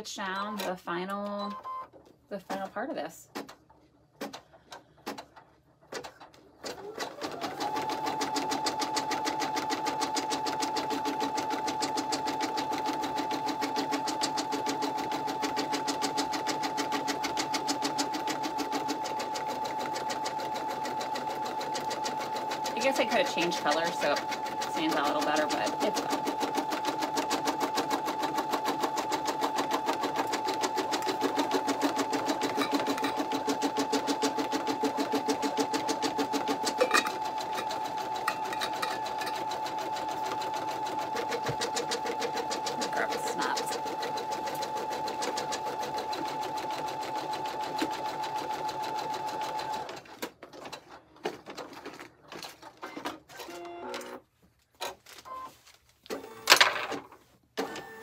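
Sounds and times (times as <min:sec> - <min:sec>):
embroidery machine stitching: 0:03.3 - 0:54.2.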